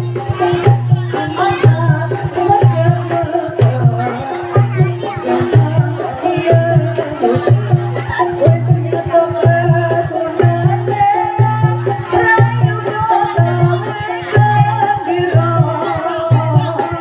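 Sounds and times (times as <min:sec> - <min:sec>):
gamelan music: 0:00.0 - 0:17.0
hand drums: 0:00.0 - 0:17.0
rattling percussion: 0:00.0 - 0:17.0.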